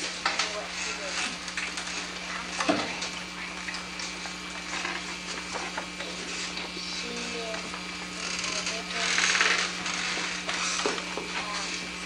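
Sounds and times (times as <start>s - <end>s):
faint classroom noises: 0.0s - 12.0s.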